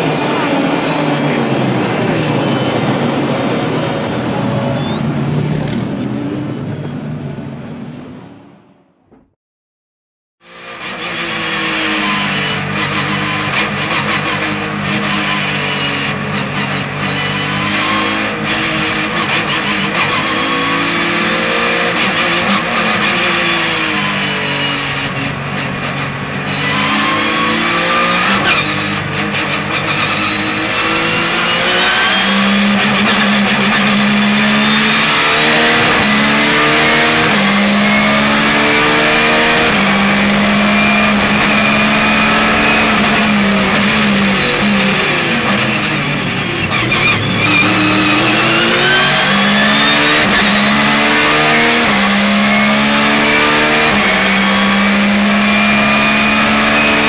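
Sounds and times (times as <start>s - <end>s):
race car engine revving: 0.0s - 7.3s, 10.5s - 57.0s.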